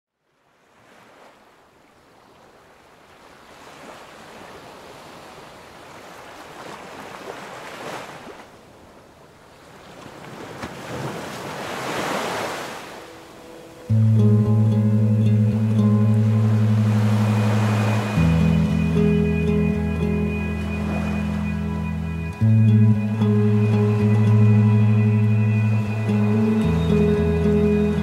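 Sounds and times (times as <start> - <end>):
sea waves washing on shore: 0.6 - 14.3, 15.0 - 28.0.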